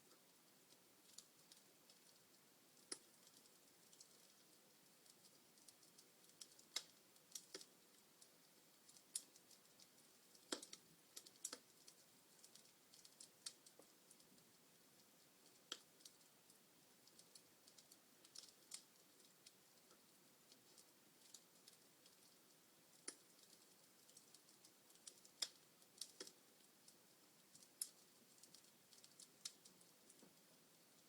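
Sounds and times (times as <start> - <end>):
faint steady hiss: 0.0 - 31.0
wood fire crackling: 0.0 - 31.0.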